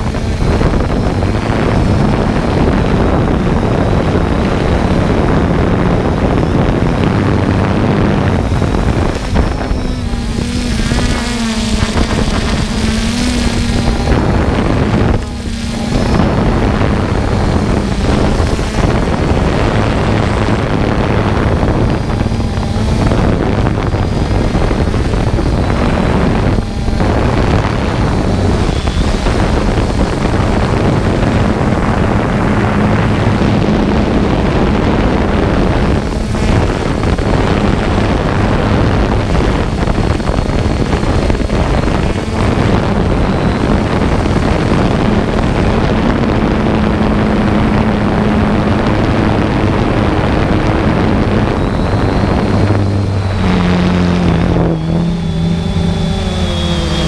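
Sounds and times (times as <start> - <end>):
drone propellers humming: 0.0 - 57.0
wind buffeting microphone: 0.0 - 57.0.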